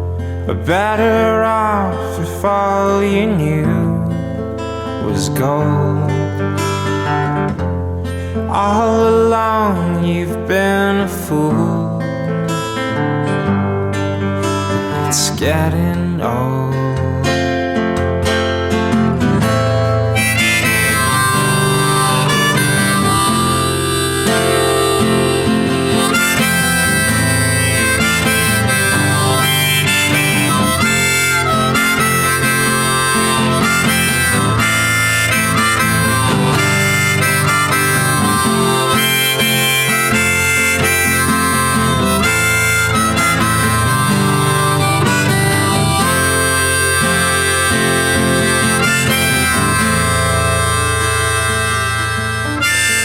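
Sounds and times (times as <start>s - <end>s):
instrumental music: 0.0s - 53.0s.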